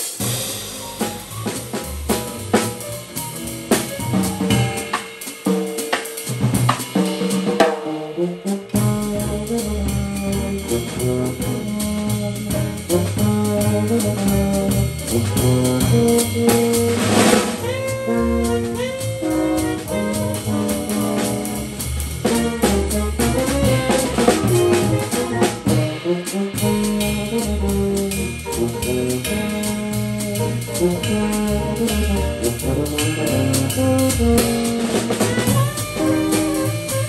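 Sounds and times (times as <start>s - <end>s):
drum kit: 0.0s - 37.0s
small jazz band playing: 0.0s - 37.0s.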